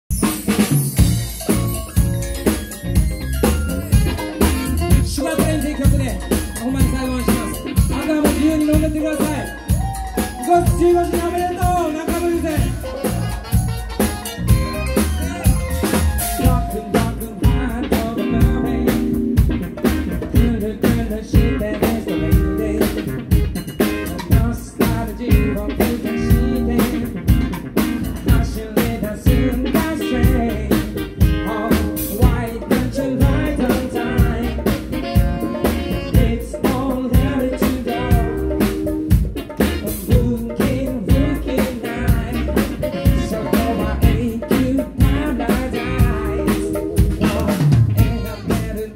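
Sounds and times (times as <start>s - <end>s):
funk band playing live: 0.1s - 48.9s.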